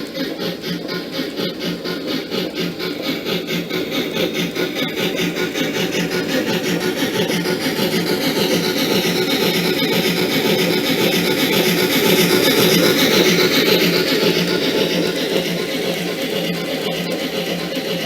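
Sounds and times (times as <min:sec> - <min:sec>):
steam locomotive chuffing: 0:00.0 - 0:18.0.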